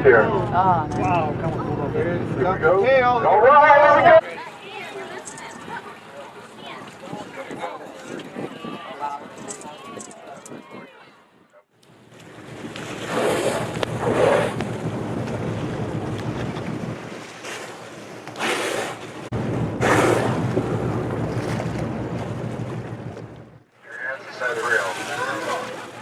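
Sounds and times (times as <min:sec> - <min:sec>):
boat engine humming: 0:00.0 - 0:07.0, 0:11.8 - 0:26.0
wind buffeting microphone: 0:00.0 - 0:23.6
sea water around boat: 0:00.0 - 0:26.0.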